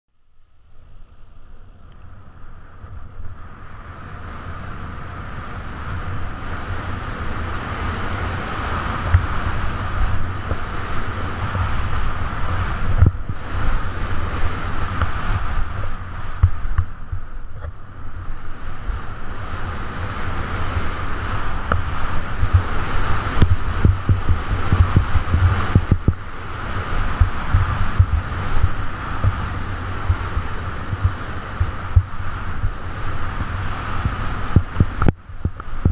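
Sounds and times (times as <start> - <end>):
skis hissing through powder snow: 0.5 - 34.8
wind buffeting microphone: 1.3 - 35.9.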